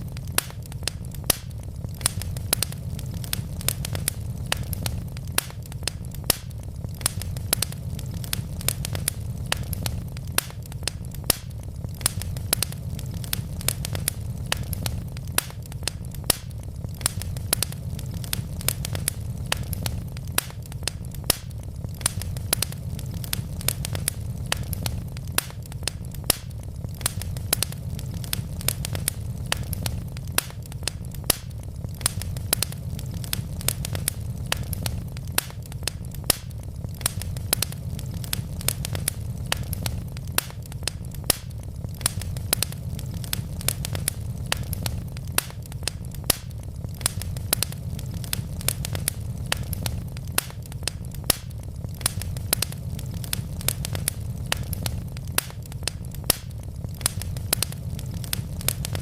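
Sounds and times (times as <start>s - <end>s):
flames rumbling: 0.0s - 59.0s
logs crackling and popping: 0.0s - 59.0s.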